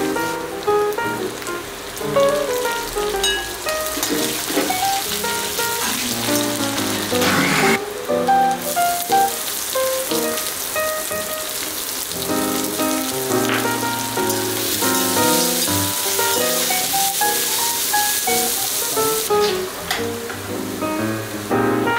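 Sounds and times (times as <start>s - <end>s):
garlic sizzling in hot oil: 0.0s - 21.5s.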